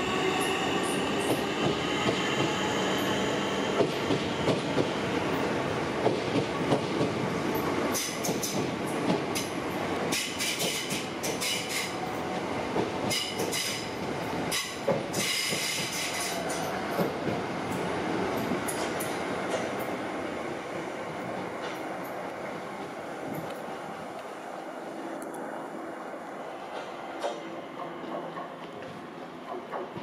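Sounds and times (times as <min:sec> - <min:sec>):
train wheels rumbling on rail: 0:00.0 - 0:24.4, 0:26.3 - 0:30.0.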